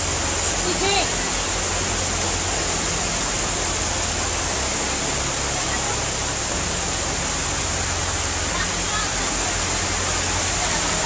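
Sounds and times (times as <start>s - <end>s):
fast-flowing floodwater: 0.0s - 11.0s
heavy rain downpour: 0.0s - 11.0s.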